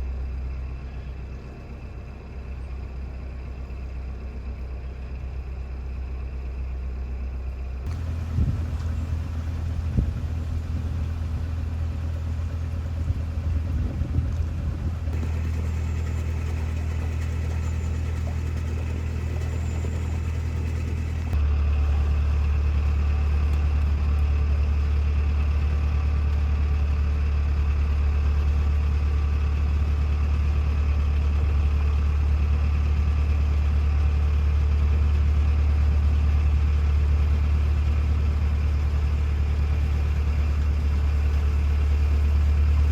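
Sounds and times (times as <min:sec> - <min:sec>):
boat diesel engine running: 0:00.0 - 0:42.9.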